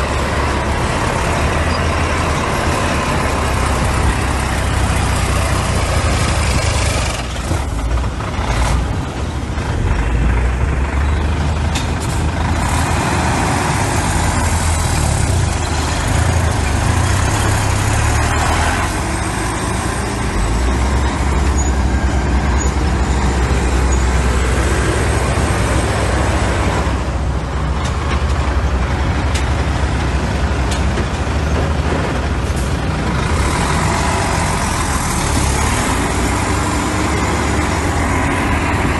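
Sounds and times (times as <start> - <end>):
heavy diesel engine droning: 0.0 - 38.9.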